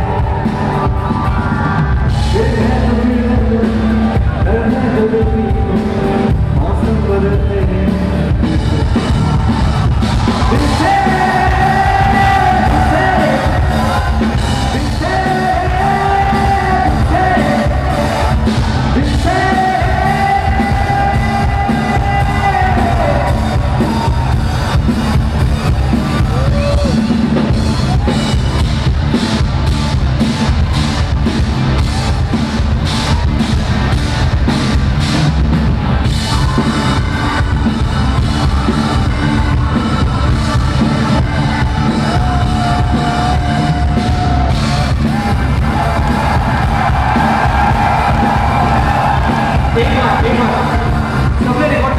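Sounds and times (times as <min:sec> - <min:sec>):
bass guitar: 0:00.0 - 0:51.9
drum kit: 0:00.0 - 0:51.9.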